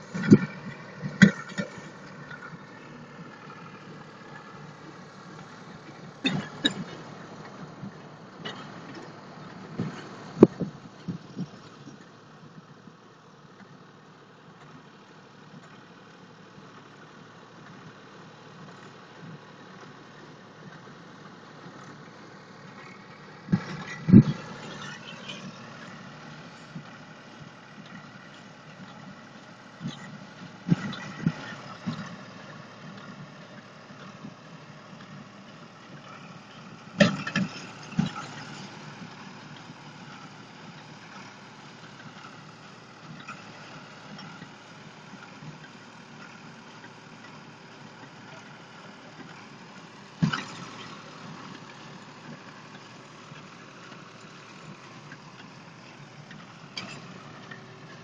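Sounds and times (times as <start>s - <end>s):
distant tractor engine: 0.0s - 58.0s.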